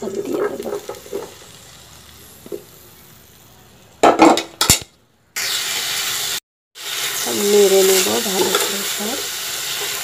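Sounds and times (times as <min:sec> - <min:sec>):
vegetables sizzling in oil: 0:00.0 - 0:04.0, 0:05.3 - 0:10.0.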